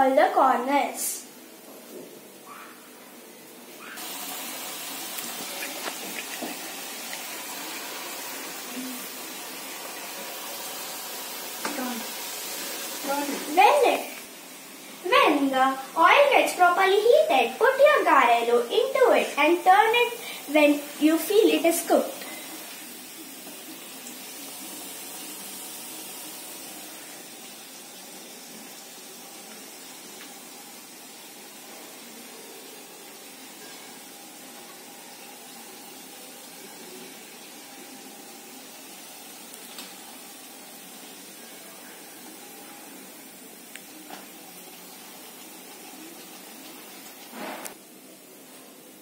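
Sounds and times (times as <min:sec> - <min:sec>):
dough deep-frying in oil: 0:03.7 - 0:49.0.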